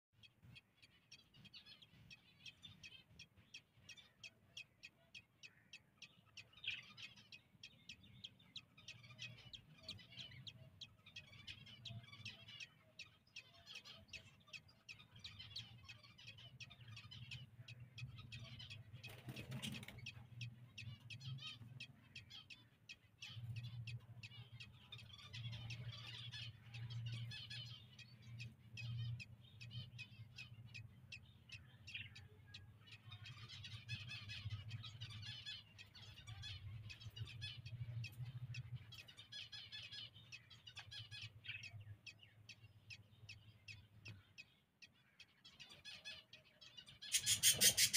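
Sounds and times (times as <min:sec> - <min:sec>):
budgerigars chirping: 0:00.2 - 0:47.9.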